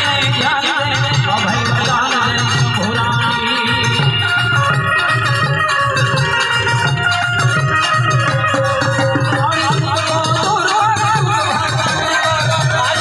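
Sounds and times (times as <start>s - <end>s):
harmonium tones: 0.0s - 13.0s
light high percussion ticking: 0.0s - 13.0s
steady drum beat: 0.0s - 13.0s.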